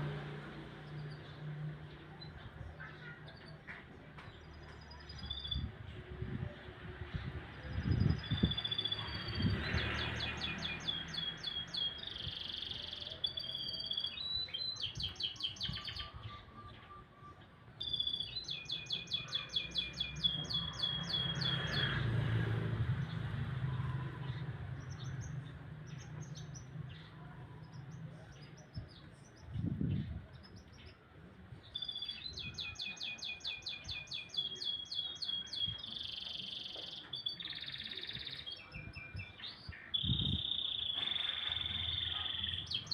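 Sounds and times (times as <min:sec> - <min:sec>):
canary singing trills: 0:07.5 - 0:22.3, 0:23.0 - 0:42.9.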